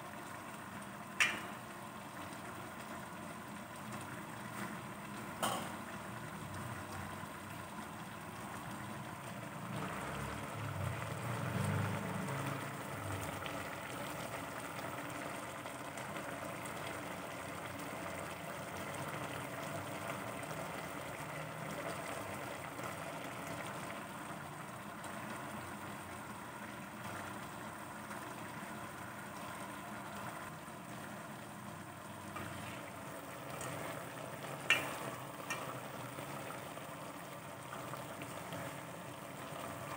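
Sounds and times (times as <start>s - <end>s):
pot simmering with bubbling hiss: 0.0s - 39.9s.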